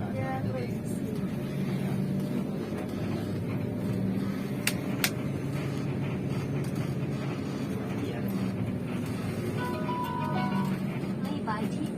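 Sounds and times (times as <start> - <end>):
vehicle engine humming: 0.0 - 11.9.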